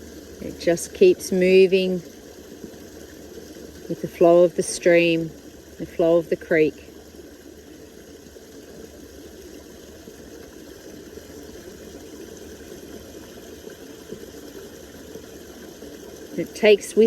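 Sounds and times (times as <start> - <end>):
creek babbling over stones: 0.0 - 17.0.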